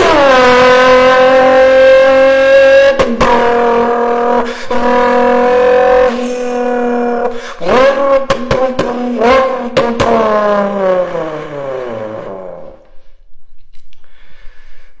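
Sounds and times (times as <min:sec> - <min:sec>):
person imitating car flyby: 0:00.0 - 0:12.8.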